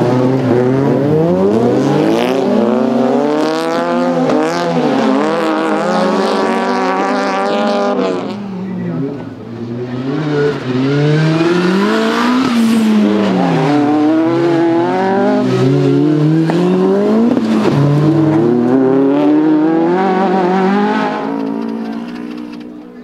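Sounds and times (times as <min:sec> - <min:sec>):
car engine revving hard: 0:00.0 - 0:08.4, 0:10.0 - 0:22.5.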